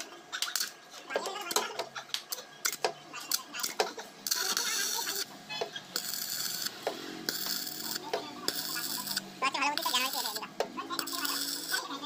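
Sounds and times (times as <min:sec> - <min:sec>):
welding arc crackling and hissing: 0:02.1 - 0:12.0.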